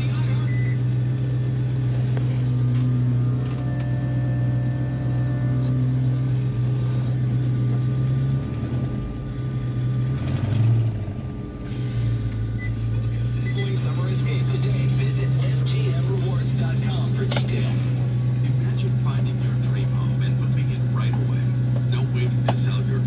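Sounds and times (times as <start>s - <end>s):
electric fuel pump humming: 0.0s - 23.0s.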